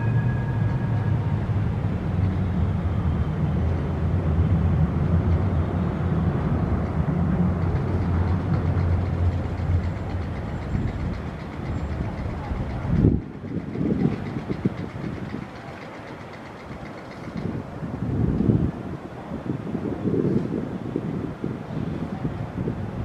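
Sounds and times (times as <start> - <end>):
heavy vehicle engine rumble: 0.0 - 23.0.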